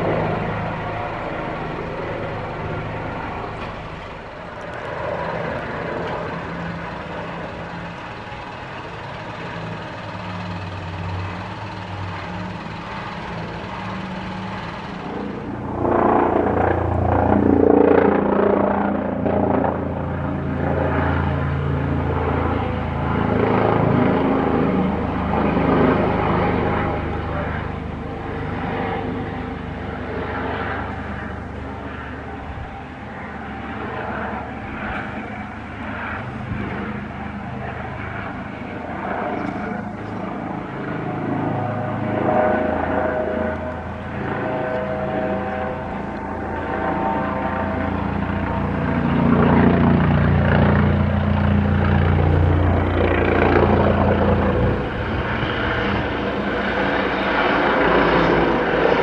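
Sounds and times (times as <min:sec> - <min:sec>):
helicopter rotor beating: 0:00.0 - 0:59.0
turbine whine: 0:00.0 - 0:59.0.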